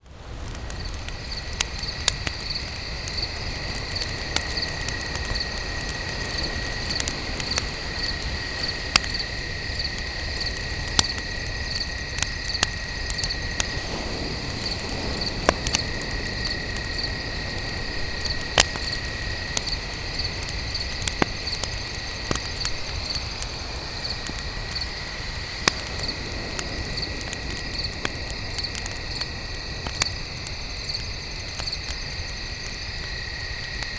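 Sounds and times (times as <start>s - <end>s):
campfire popping: 0.0s - 33.9s
continuous cricket trill: 0.0s - 33.9s
pulsing cricket chirps: 0.4s - 33.9s.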